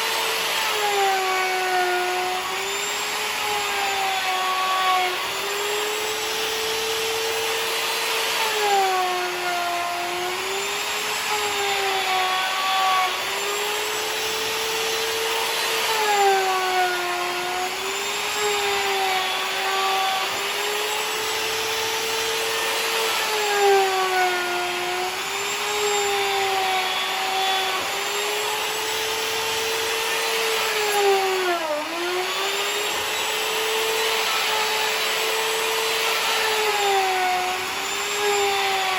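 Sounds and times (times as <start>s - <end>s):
electric router whining: 0.0s - 38.9s
wood cutting hiss: 0.0s - 38.9s.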